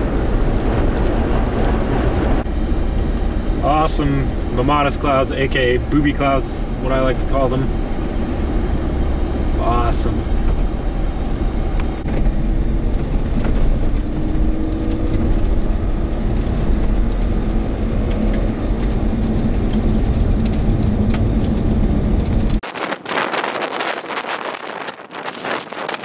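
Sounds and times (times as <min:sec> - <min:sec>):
road and engine rumble: 0:00.0 - 0:26.0
wind buffeting microphone: 0:00.0 - 0:26.0.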